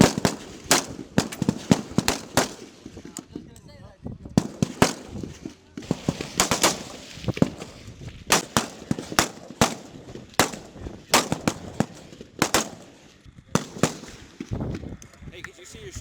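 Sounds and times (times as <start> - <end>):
rifle shots: 0.0 - 3.3, 4.4 - 14.5.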